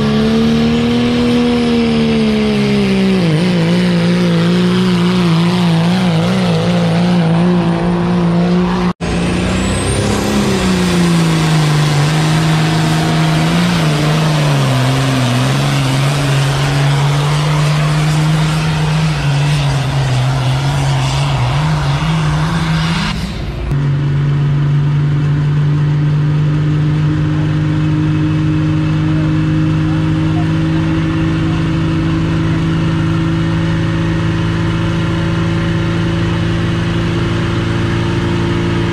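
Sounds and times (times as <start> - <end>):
diesel engines at full throttle: 0.0 - 38.9.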